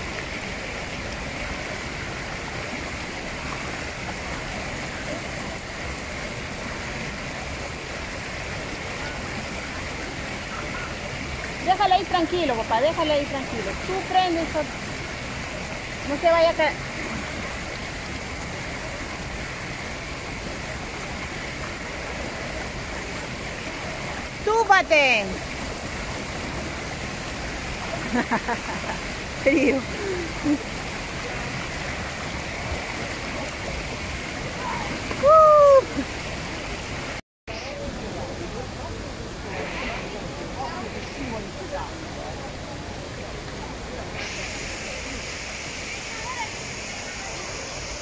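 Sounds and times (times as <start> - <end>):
river water rushing over rocks: 0.0 - 48.0.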